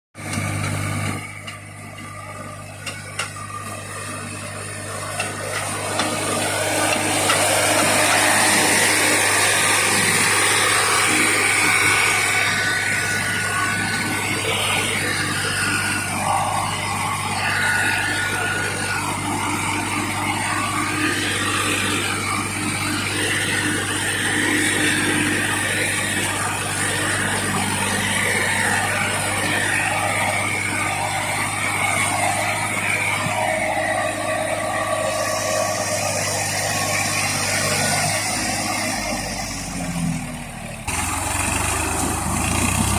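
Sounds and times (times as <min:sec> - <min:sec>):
tractor diesel engine running: 0:00.1 - 0:42.9.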